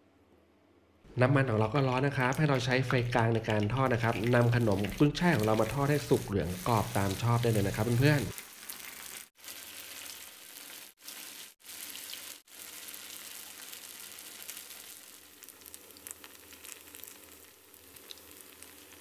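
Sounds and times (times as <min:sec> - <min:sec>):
oil sizzling in a pan: 0:01.6 - 0:19.0.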